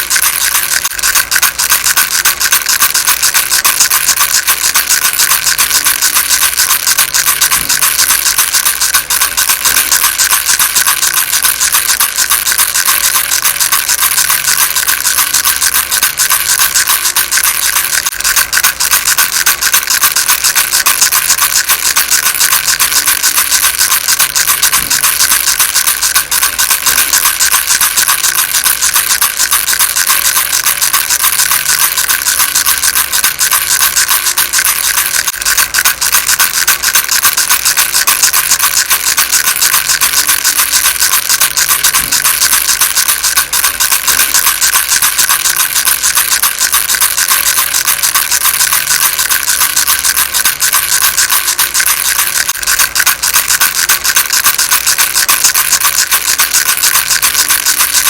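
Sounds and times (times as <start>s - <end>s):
rattle shaken: 0.0s - 58.0s.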